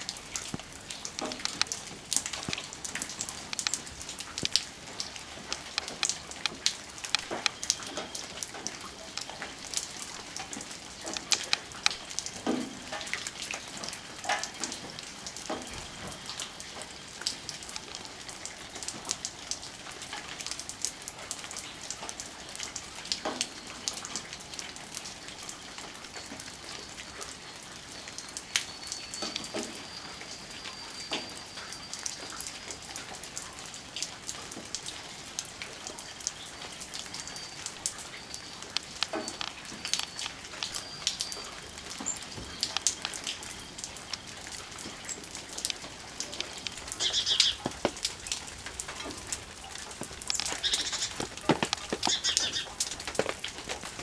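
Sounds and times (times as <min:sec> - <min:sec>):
water dripping onto wet snow: 0:00.0 - 0:54.0.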